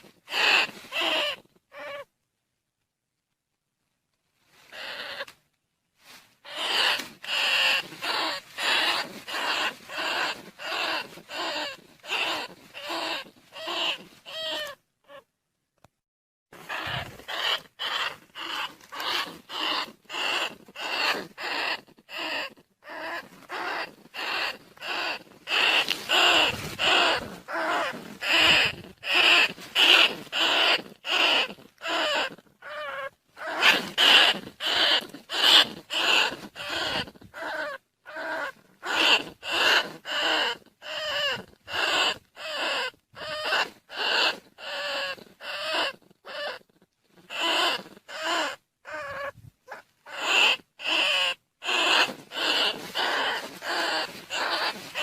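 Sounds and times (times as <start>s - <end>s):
rat squeaking calls: 0.3s - 2.1s, 4.7s - 5.4s, 6.4s - 15.3s, 16.6s - 55.0s.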